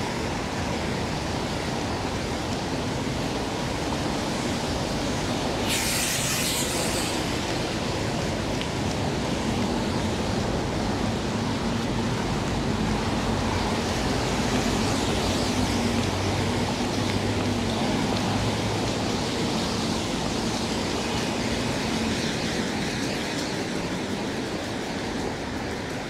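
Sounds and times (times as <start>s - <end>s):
rain on street: 0.0s - 26.0s
traffic on wet street: 0.0s - 26.0s.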